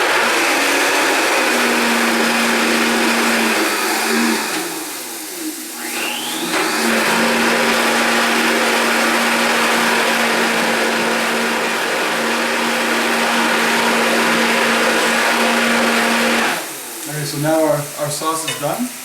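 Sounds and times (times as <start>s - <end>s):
blender whining: 0.0s - 19.0s.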